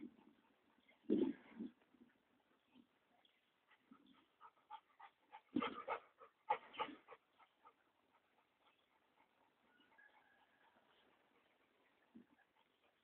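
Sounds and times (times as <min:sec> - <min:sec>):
large dogs panting: 0:00.0 - 0:13.0.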